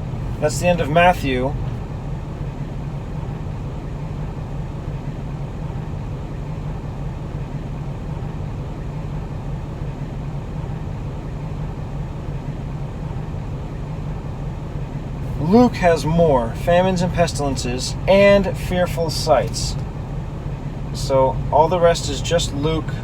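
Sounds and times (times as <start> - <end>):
constant noise: 0.0 - 23.0
steady low hum: 0.0 - 23.0.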